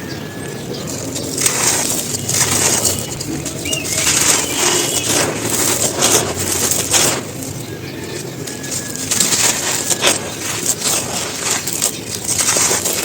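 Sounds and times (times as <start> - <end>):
dry cones being crushed: 0.8 - 13.0.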